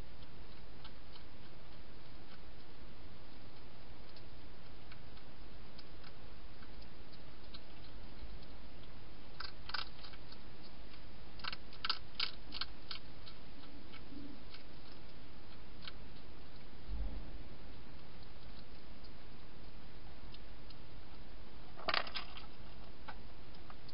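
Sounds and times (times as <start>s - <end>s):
hedgehog crunching dry food: 0.2s - 16.7s, 17.7s - 23.9s.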